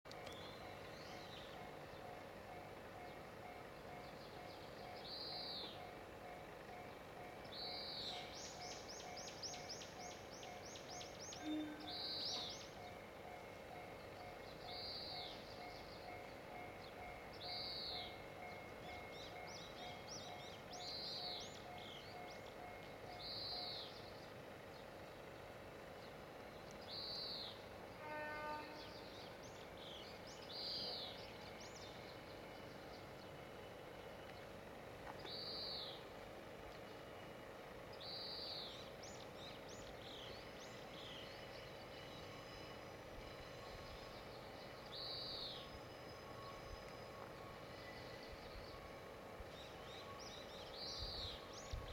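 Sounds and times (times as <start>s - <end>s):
faint pulsing tone: 0.1s - 51.9s
songbird calling: 6.7s - 13.0s, 14.0s - 24.9s, 26.0s - 51.9s.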